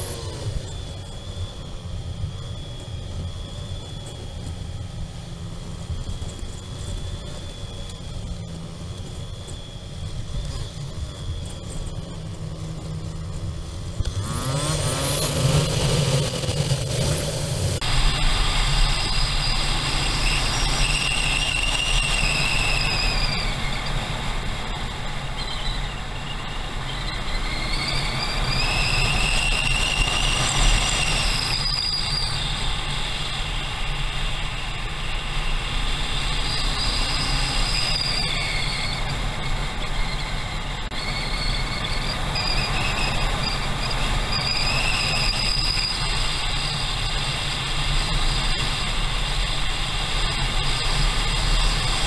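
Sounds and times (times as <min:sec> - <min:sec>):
high whine: 0:00.0 - 0:52.0
motorcycle engine rumble: 0:00.0 - 0:52.0
wind noise: 0:00.0 - 0:52.0.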